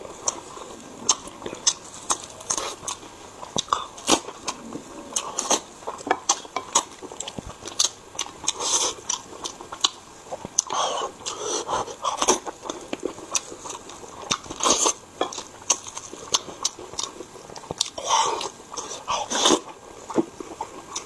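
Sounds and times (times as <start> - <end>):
man chewing meat: 0.0 - 21.0.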